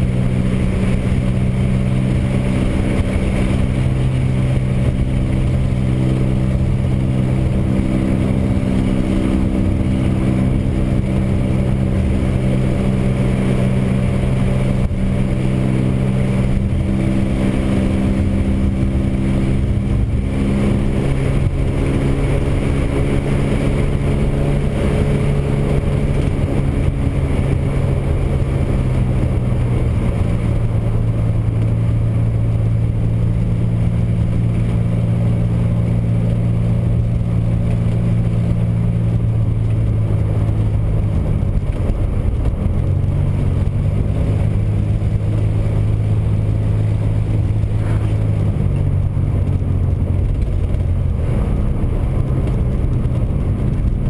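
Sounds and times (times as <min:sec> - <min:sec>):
engine pulling steadily: 0:00.0 - 0:54.0
tyre and road noise: 0:00.0 - 0:54.0.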